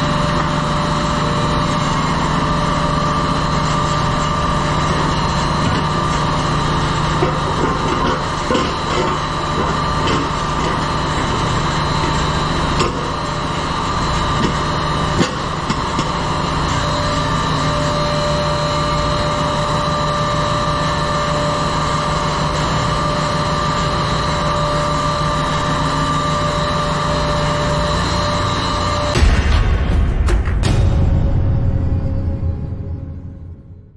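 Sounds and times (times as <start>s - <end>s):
engine-room machinery drone: 0.0s - 33.9s
machinery whining tones: 0.0s - 33.9s.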